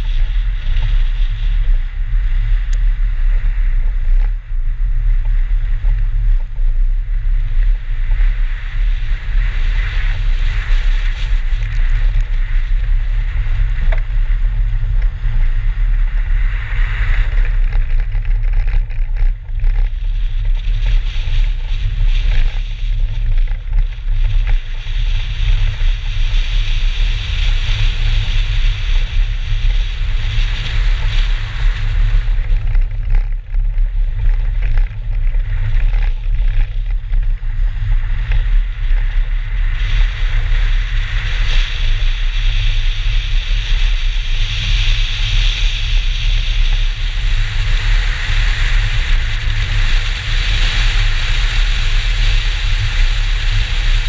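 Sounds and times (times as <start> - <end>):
tyres hissing on snow and gravel: 0.0 - 54.0
wind rumble on microphone: 0.0 - 54.0.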